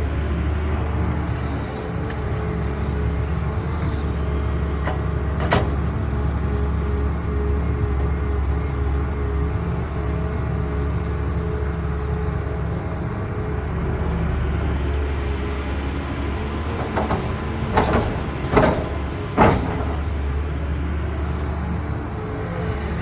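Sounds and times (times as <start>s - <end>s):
diesel excavator engine running: 0.0s - 23.0s.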